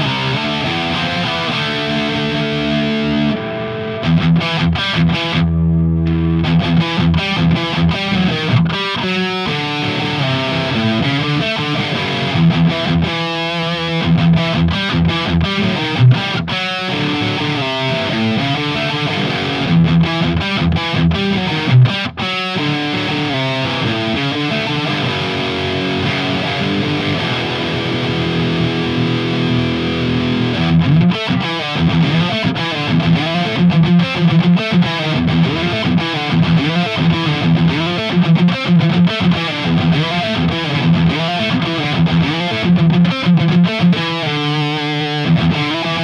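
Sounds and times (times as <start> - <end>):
distorted electric guitar metal riff: 0.0 - 46.0.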